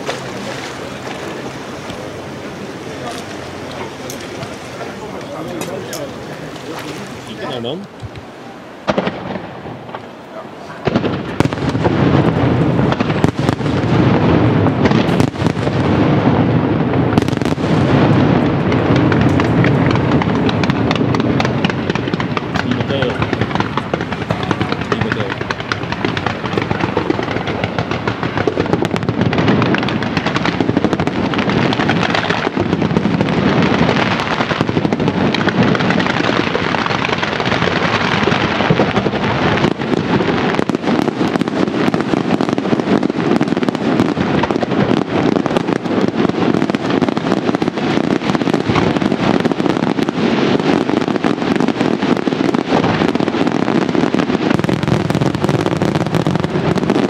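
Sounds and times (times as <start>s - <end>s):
fireworks cracks and bangs: 0.0s - 57.0s.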